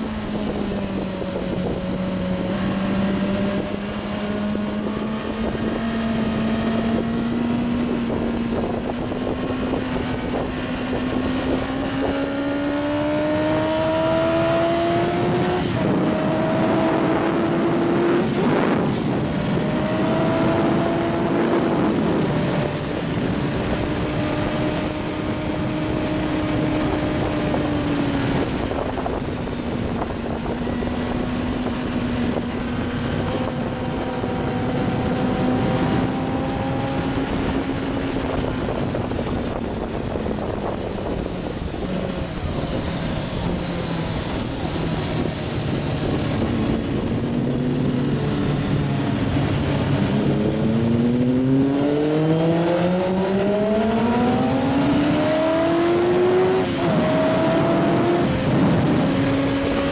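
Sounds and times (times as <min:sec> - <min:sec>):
motorcycle engine revving: 0:00.0 - 0:59.9
wind rushing: 0:00.0 - 0:59.9.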